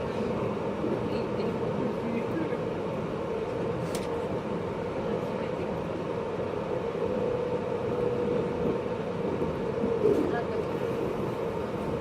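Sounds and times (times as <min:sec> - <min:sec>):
train car hum and rumble: 0:00.0 - 0:12.0.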